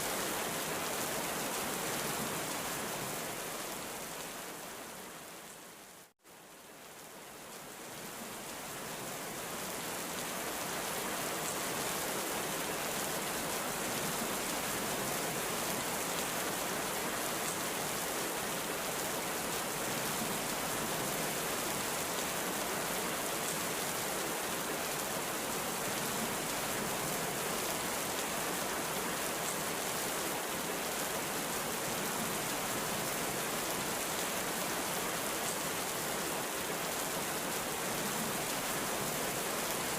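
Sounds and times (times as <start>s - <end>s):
heavy rain falling: 7.7s - 39.9s.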